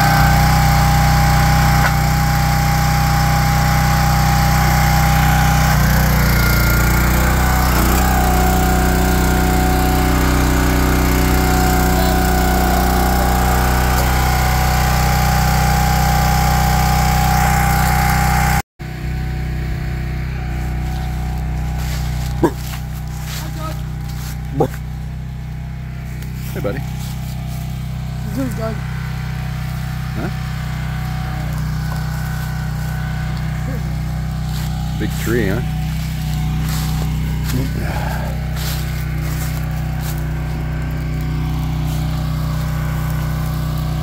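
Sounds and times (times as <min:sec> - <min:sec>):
small gasoline engine running: 0:00.0 - 0:44.0.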